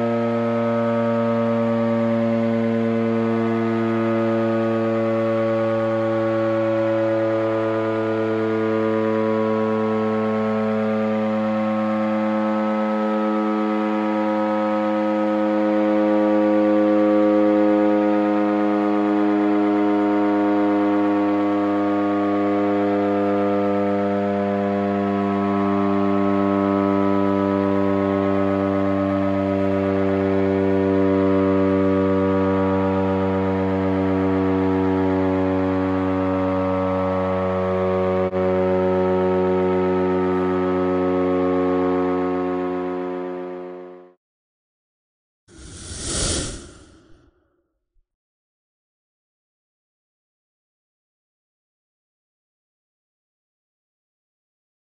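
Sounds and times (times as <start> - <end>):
air raid siren wailing: 0.0 - 44.2.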